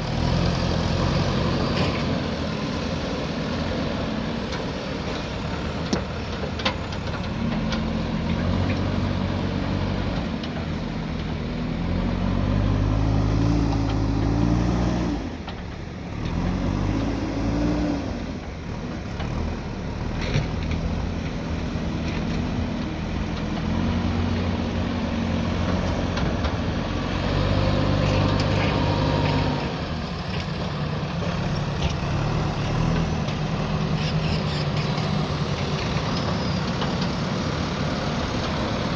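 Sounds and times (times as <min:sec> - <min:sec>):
diesel engine revving under load: 0:00.0 - 0:06.4, 0:07.3 - 0:38.9.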